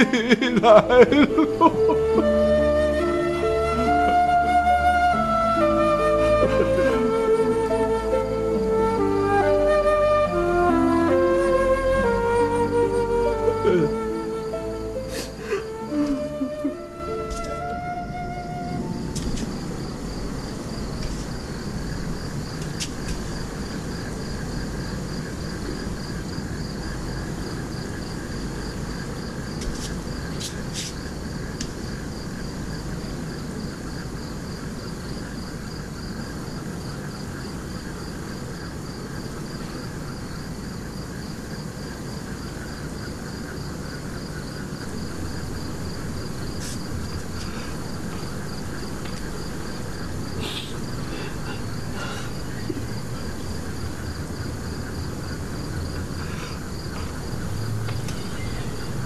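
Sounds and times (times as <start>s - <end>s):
low background hum: 0.0s - 9.2s, 10.4s - 59.0s
crickets chirping: 0.0s - 59.0s.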